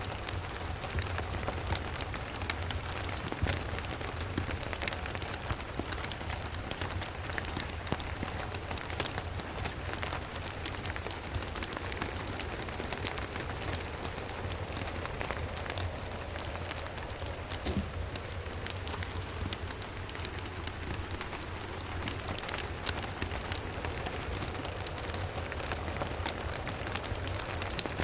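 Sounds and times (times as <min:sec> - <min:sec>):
steady rain: 0:00.0 - 0:28.0
wood fire crackling: 0:00.0 - 0:28.0.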